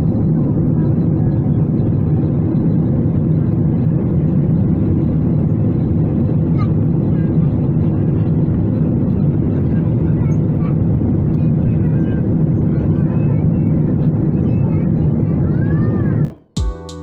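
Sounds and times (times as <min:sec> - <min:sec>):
airliner cabin rumble: 0:00.0 - 0:16.4.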